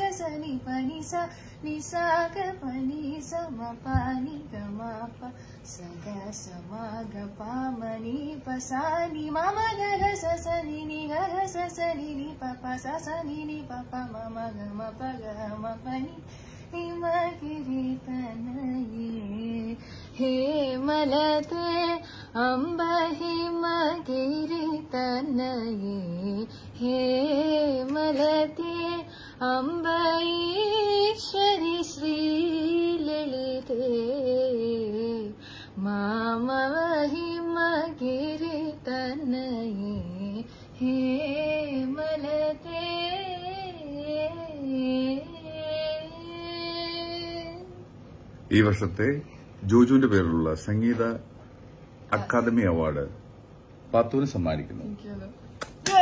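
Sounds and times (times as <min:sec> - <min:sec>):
girl singing unaccompanied: 0:00.0 - 0:47.9.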